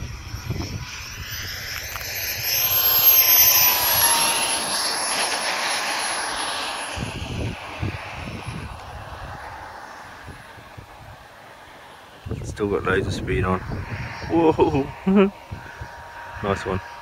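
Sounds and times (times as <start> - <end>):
jet turbine whining: 0.0 - 17.0.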